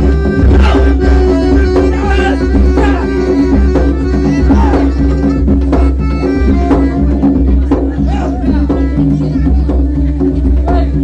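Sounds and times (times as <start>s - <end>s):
wavering melody: 0.0s - 10.8s
hand drum beats: 0.0s - 11.0s.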